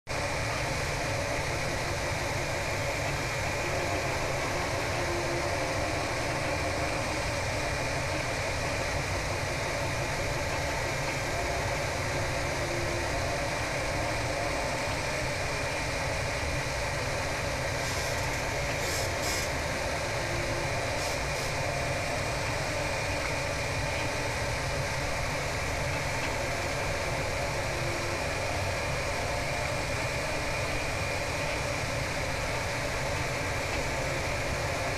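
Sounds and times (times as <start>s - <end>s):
laser engraver whirring: 0.1s - 34.9s
constant high tone: 0.2s - 34.9s.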